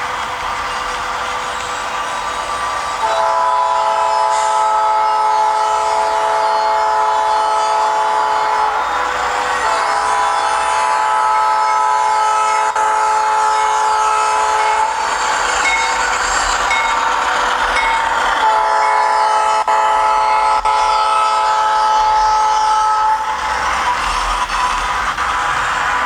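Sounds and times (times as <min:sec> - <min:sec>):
locomotive running noise: 0:00.0 - 0:26.0
model locomotive air horn: 0:02.0 - 0:16.8, 0:18.4 - 0:25.6.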